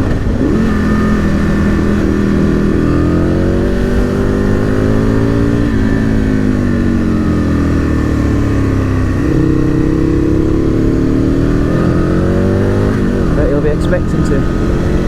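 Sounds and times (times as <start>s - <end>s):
motorcycle engine while riding: 0.0s - 15.0s.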